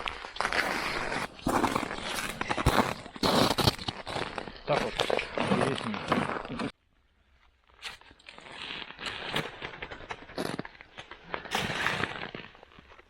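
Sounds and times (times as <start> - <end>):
ice and frozen snow crunching: 0.0 - 6.7, 7.7 - 13.0.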